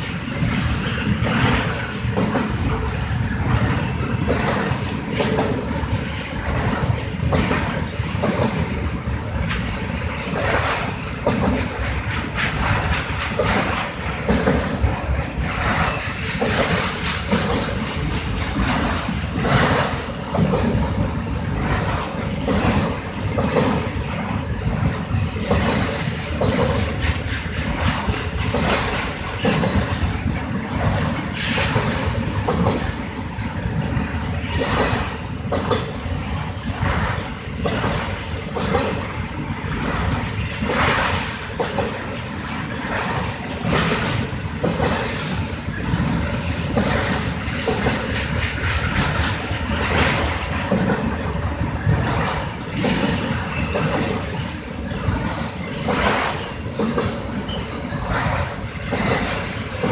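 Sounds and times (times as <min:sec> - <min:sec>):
freight train rumbling: 0:00.0 - 0:59.9
wheels clanking on rails: 0:00.0 - 0:59.9.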